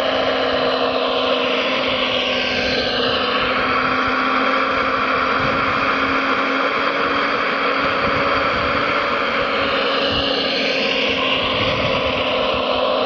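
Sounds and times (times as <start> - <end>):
model excavator motors whining: 0.0 - 13.0.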